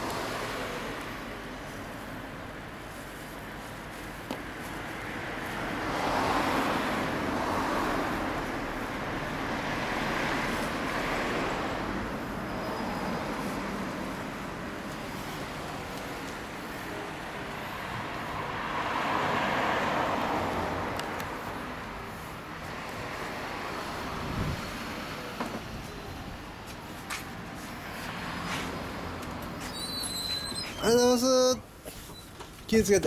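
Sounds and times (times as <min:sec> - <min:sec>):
vehicles passing on street: 0:00.0 - 0:33.0.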